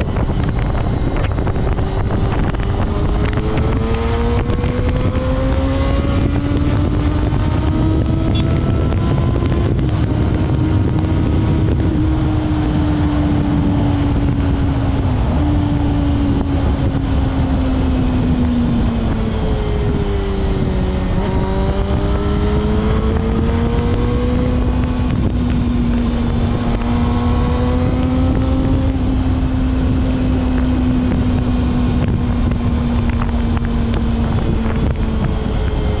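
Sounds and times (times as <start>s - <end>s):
motorcycle engine at high revs: 0.0s - 36.0s
wind noise on microphone: 0.0s - 36.0s.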